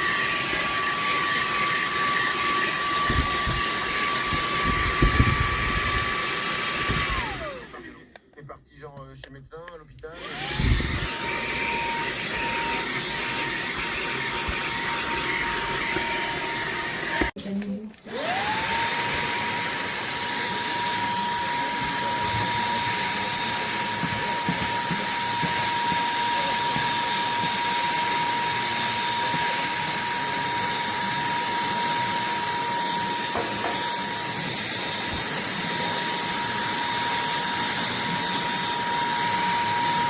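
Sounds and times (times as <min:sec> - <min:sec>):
handheld vacuum cleaner running: 0:00.0 - 0:08.2, 0:10.1 - 0:40.0.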